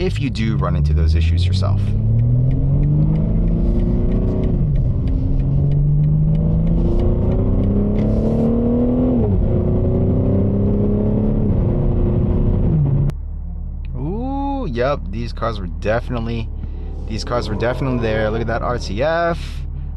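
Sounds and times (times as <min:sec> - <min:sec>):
car engine accelerating: 0:00.0 - 0:19.9.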